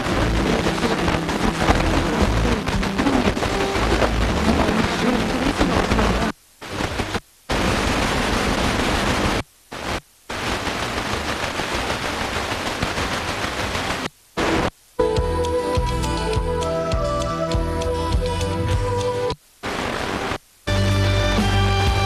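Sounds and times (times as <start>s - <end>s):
faint radio station audio: 0.0s - 22.0s
radio static hiss: 0.0s - 22.0s.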